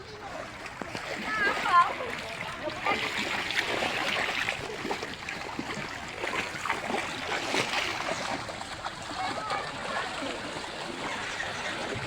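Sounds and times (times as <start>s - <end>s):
floodwater splashing: 0.0s - 12.0s
water rushing: 0.0s - 12.0s.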